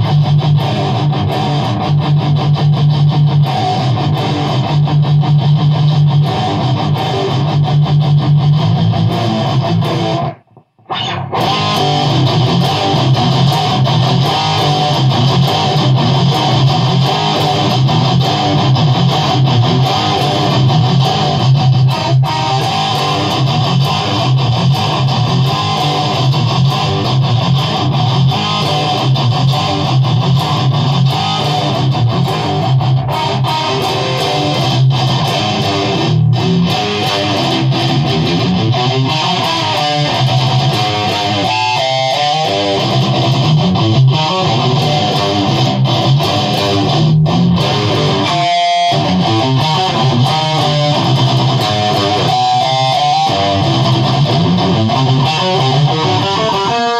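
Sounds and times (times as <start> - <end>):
fast electric guitar riffing: 0.0 - 56.9.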